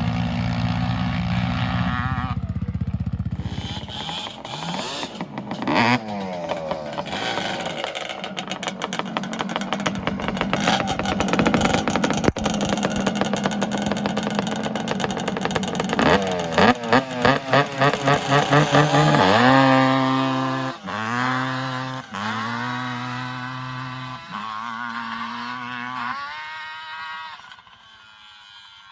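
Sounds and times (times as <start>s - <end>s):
atv engine revving: 0.0s - 28.9s.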